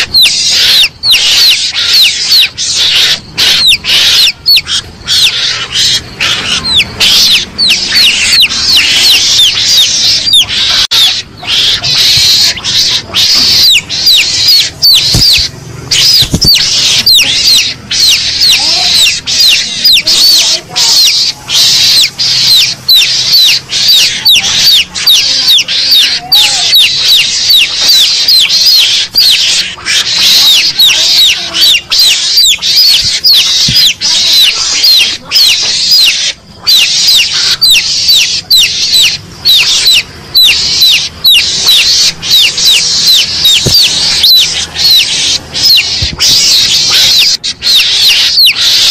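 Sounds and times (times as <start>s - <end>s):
shrill chirping lure call: 0.0s - 48.9s.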